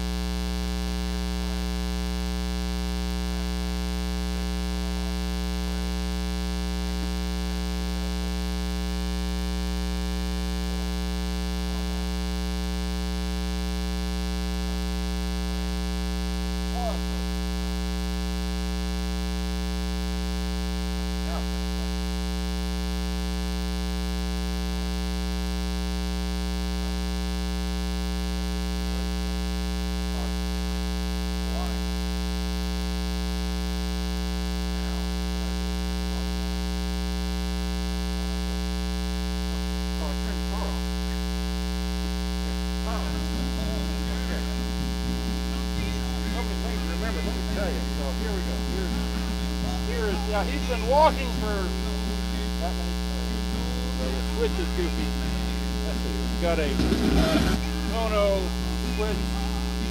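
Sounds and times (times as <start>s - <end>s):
mains hum: 0.0s - 59.9s.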